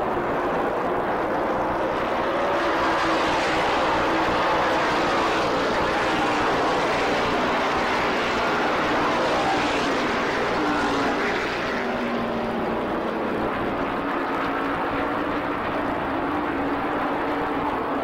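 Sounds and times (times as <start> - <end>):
race car engines roaring: 0.0 - 18.0.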